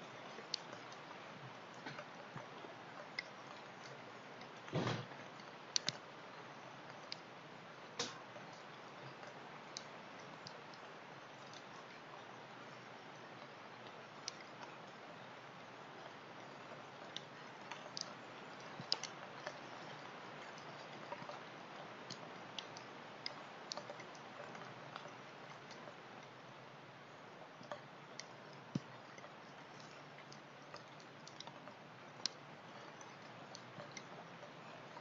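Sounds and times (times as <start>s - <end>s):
faint rain hiss: 0.0s - 35.0s
raindrops ticking: 0.0s - 35.0s.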